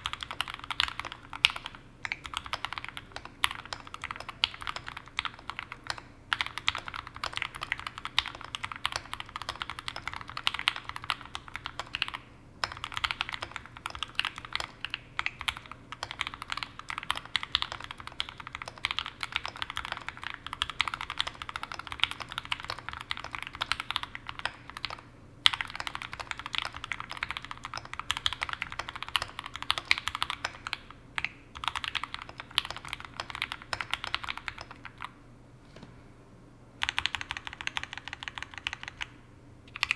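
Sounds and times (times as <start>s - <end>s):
mechanical keyboard typing: 0.0s - 35.2s, 36.8s - 39.1s, 39.7s - 39.9s.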